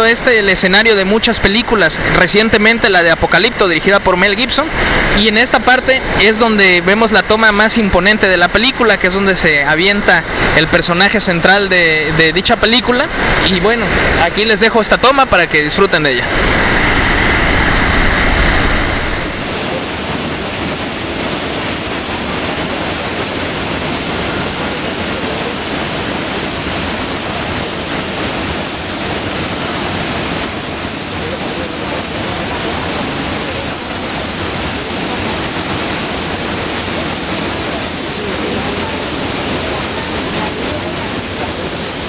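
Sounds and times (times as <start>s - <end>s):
churning white water: 0.0s - 42.0s
waterfall roaring: 0.0s - 42.0s.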